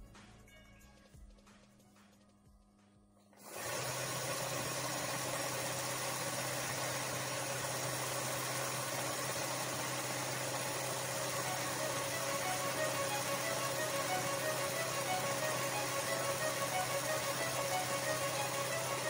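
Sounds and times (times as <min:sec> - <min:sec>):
machine motor hum with hiss: 0:03.4 - 0:19.0.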